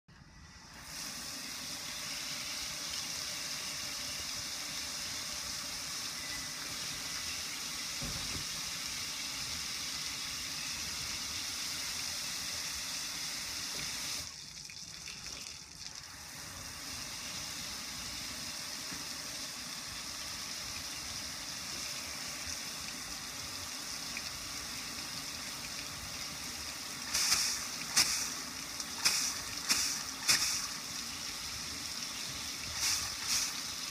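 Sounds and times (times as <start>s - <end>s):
hose spraying water on metal: 0.7s - 14.3s, 20.1s - 33.9s.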